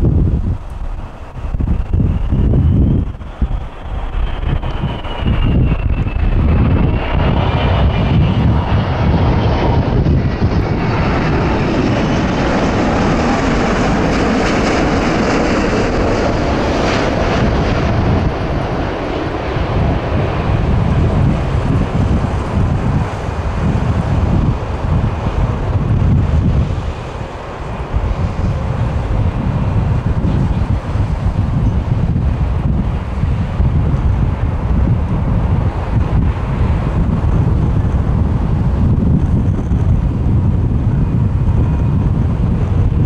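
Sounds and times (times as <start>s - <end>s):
faint jet whine: 0.0s - 43.0s
loud jet roar: 0.0s - 43.0s
wind rumble on microphone: 0.0s - 43.0s.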